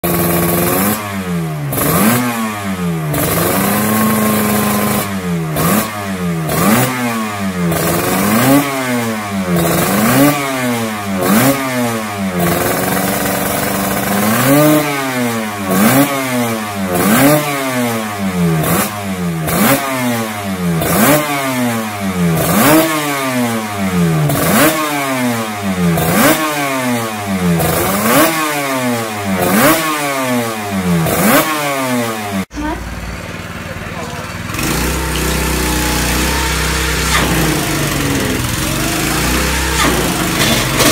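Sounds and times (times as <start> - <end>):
two-stroke engine revving: 0.0 - 40.9.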